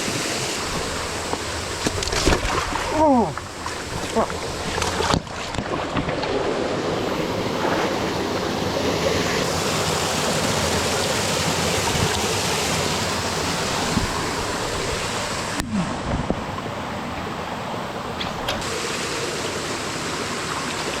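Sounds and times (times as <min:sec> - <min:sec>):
creek water rushing over rocks: 0:00.0 - 0:21.0.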